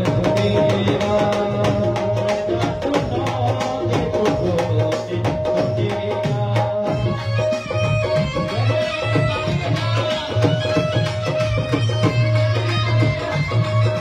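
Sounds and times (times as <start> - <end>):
fast hand drum beat: 0.0 - 14.0
man singing into microphone: 0.0 - 14.0.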